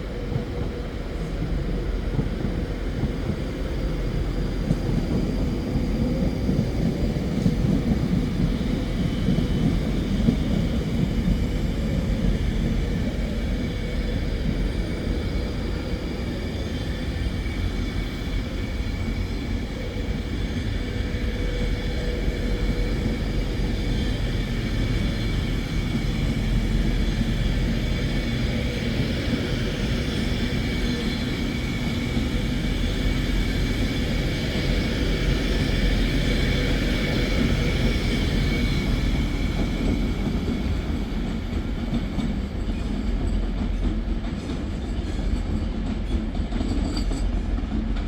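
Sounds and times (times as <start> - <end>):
train rumbling: 0.0 - 48.0.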